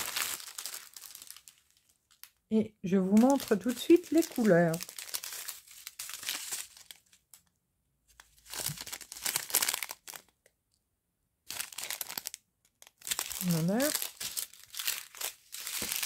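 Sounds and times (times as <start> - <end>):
plastic sachets crinkling: 0.0 - 7.5, 8.2 - 10.5, 11.5 - 16.0.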